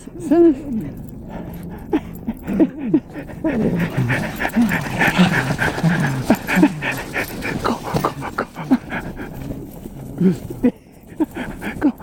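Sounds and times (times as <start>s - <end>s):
dogs breathing hard: 0.0s - 12.0s
dogs whining: 0.0s - 12.0s.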